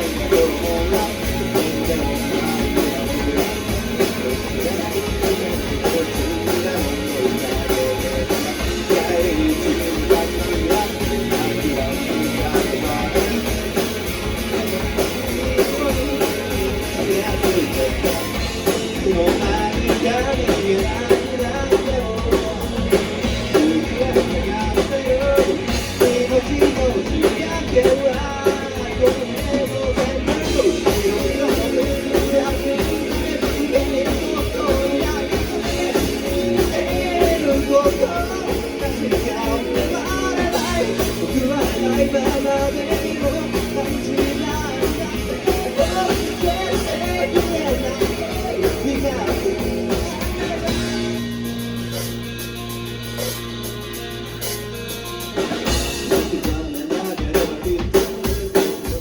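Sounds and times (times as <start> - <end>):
instrumental rock music: 0.0 - 59.0.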